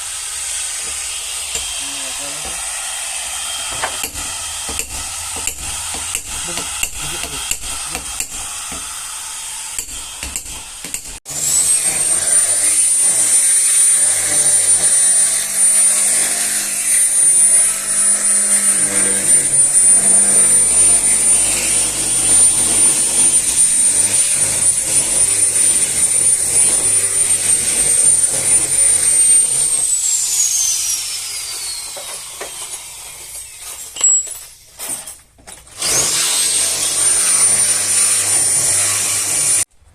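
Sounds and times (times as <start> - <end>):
power tool whining and grinding: 0.0 - 34.6, 35.6 - 39.7.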